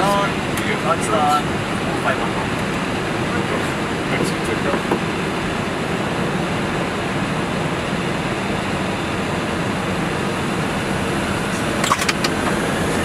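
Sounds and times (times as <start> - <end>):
jet engine rising whine: 0.0 - 13.0
jet engines idling hum: 0.0 - 13.0.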